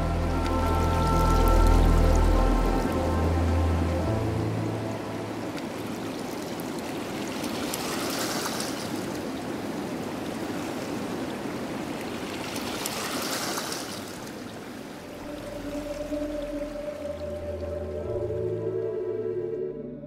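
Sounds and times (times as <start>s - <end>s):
shallow water washing and trickling: 0.0s - 19.0s.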